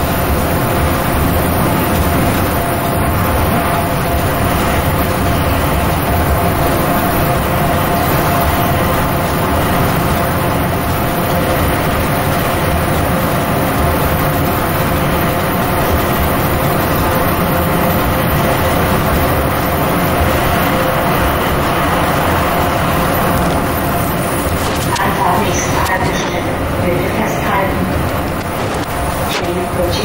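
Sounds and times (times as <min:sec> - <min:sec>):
faint steady hum: 0:00.0 - 0:30.0
train rolling rumble: 0:00.0 - 0:30.0.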